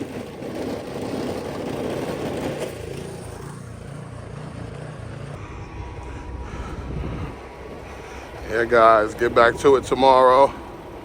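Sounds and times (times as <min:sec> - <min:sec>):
snowblower engine running: 0:00.0 - 0:11.0.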